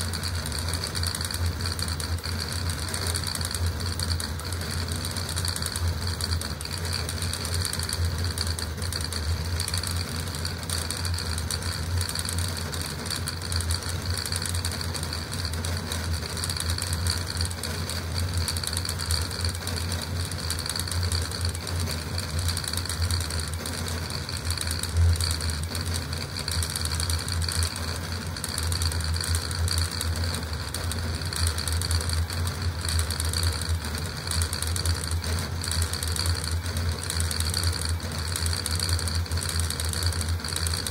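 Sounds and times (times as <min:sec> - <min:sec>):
steady low hum: 0:00.0 - 0:40.9
stepper motors buzzing and whirring: 0:00.0 - 0:40.9.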